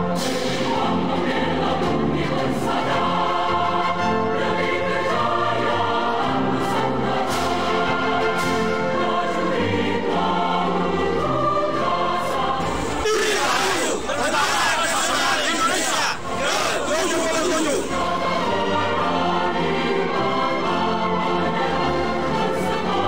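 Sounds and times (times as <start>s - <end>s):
choir singing long held chords: 0.0s - 23.0s.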